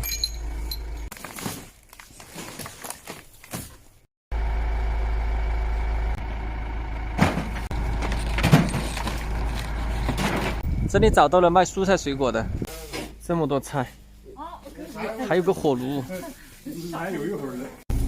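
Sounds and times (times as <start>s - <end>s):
truck engine and road rumble: 0.0s - 2.1s, 3.3s - 18.0s.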